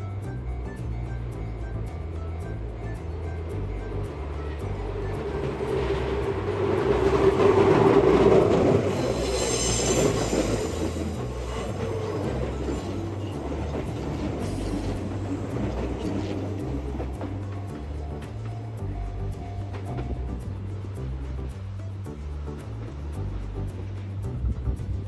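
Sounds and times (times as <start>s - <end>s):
train running: 0.0s - 25.0s
train wheels squealing on rails: 0.2s - 20.5s.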